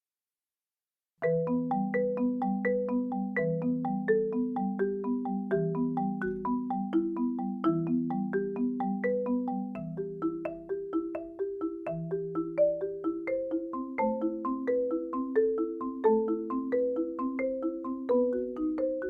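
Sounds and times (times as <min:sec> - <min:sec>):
marimba played with mallets: 0:01.2 - 0:19.0.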